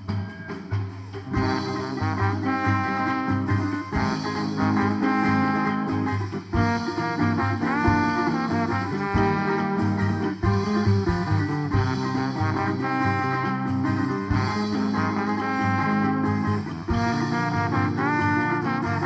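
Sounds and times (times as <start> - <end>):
bass and drums: 0.0 - 19.0
horns playing melody: 1.3 - 19.0.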